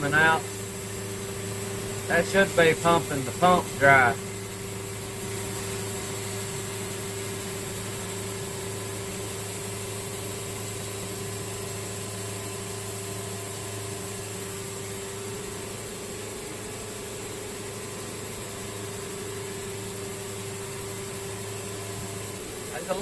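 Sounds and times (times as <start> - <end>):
sawmill engine humming: 0.0 - 23.0.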